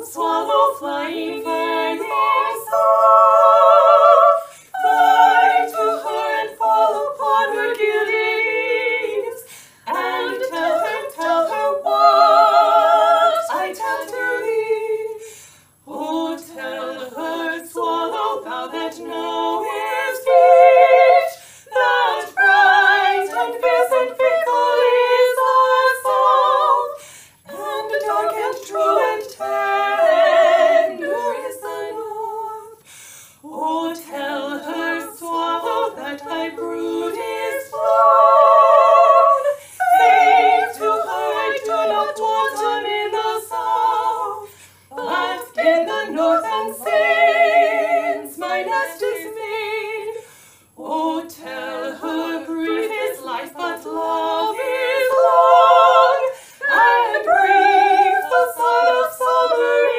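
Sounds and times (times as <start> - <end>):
women singing in harmony: 0.0 - 59.9.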